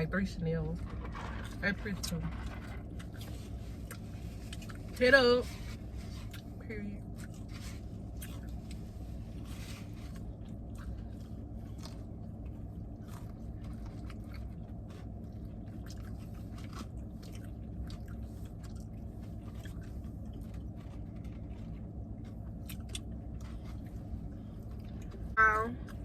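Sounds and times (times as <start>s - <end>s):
steady low hum: 0.0s - 26.0s
chewing and biting food: 2.2s - 5.0s, 5.8s - 26.0s.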